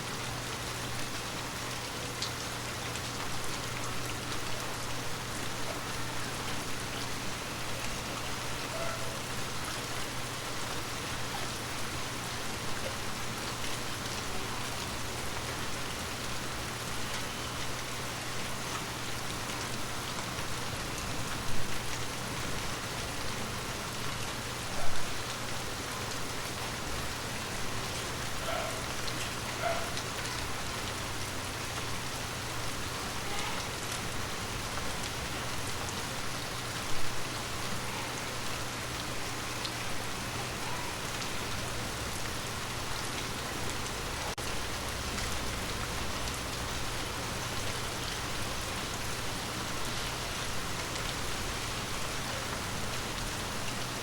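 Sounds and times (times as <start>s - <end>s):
louder rain hits: 0.0s - 54.0s
rain on leaves: 0.0s - 54.0s.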